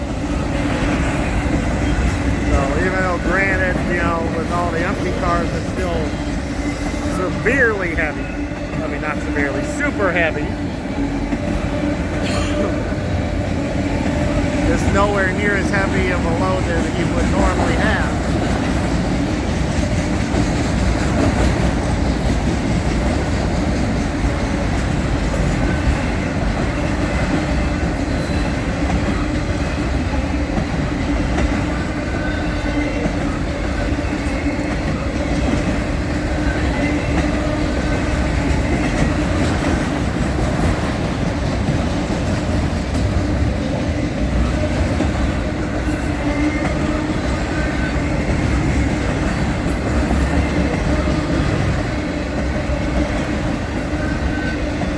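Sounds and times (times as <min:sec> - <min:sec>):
train wheels clickety-clack: 0:00.0 - 0:54.9
train wheels rumbling on rail: 0:00.0 - 0:54.9.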